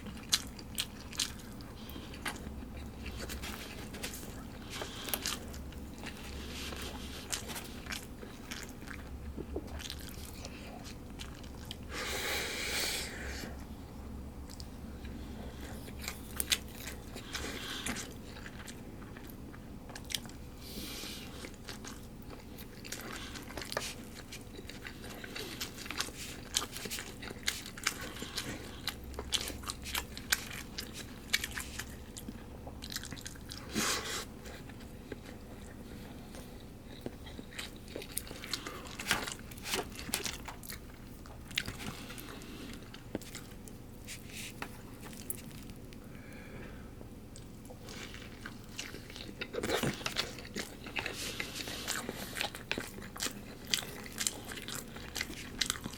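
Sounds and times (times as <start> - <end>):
person chewing: 0.0 - 13.7, 14.4 - 55.9.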